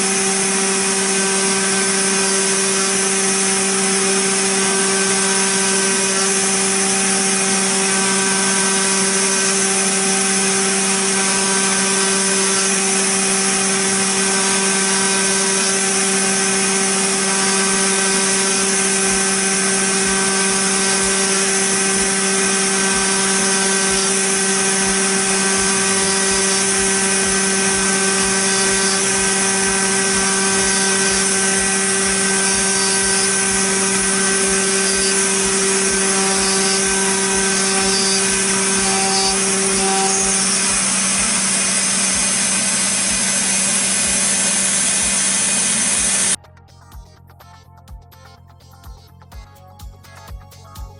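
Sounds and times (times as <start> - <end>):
hiss of milling metal: 0.0 - 46.4
milling spindle whine: 0.0 - 46.4.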